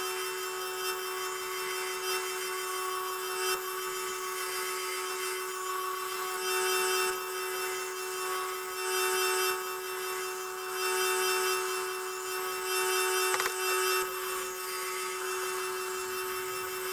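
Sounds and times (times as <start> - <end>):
grinder motor hum: 0.0 - 16.9.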